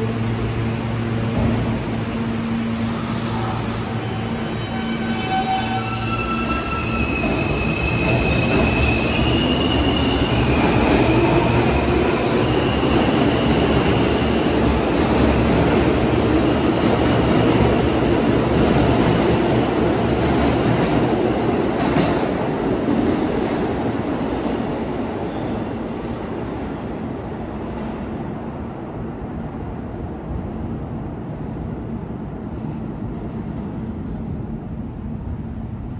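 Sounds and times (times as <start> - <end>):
subway train rumbling on tracks: 0.0 - 35.9.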